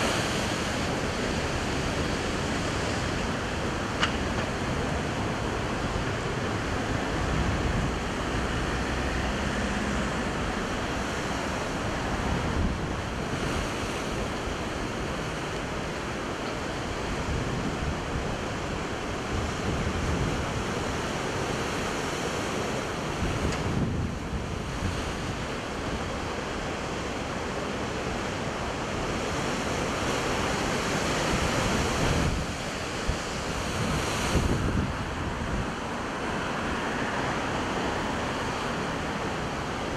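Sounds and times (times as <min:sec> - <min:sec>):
wind rumbling on microphone: 0:00.0 - 0:27.4, 0:28.4 - 0:39.9
waves crashing on rocks: 0:00.0 - 0:39.9.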